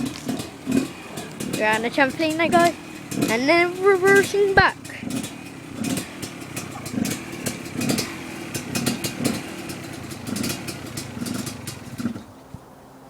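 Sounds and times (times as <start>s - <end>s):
sharp clicks and clatter: 0.0s - 12.2s
dirt bike engine revving: 0.0s - 12.3s.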